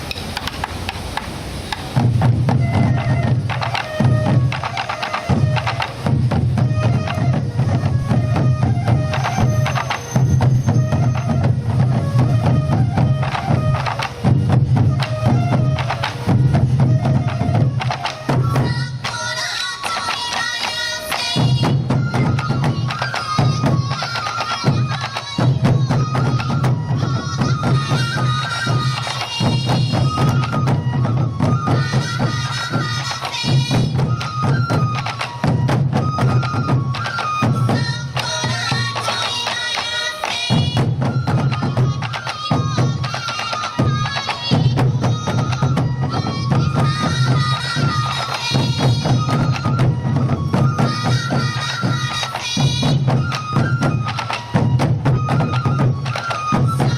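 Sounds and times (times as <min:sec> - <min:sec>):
bamboo flute melody: 0:00.0 - 0:56.9
taiko drums beating: 0:00.0 - 0:56.9.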